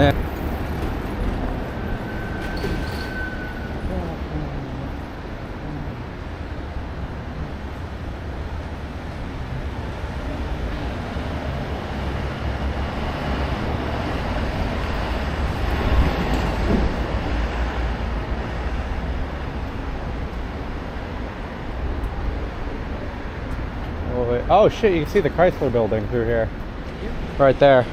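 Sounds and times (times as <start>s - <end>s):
train passing by: 0.0s - 27.9s.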